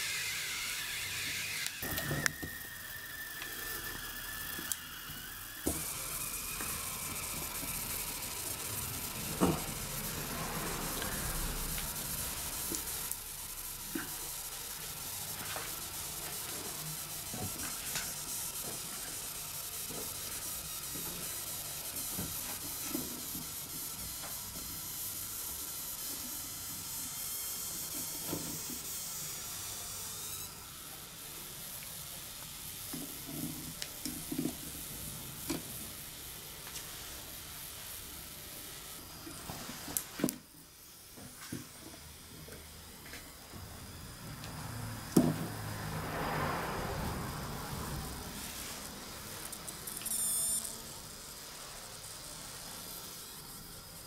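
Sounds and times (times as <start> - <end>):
chestnuts sizzling on grill: 0.0 - 41.8, 42.4 - 54.0.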